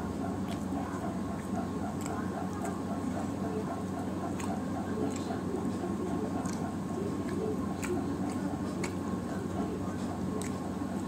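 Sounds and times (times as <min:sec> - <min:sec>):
steady hum: 0:00.0 - 0:11.0
wet chewing smacks: 0:00.2 - 0:11.0.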